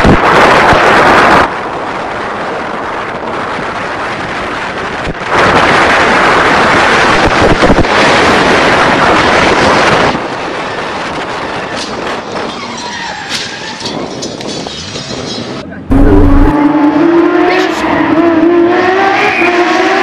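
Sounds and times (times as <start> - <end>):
car road noise: 0.0 - 20.0
wind noise on microphone: 0.0 - 20.0.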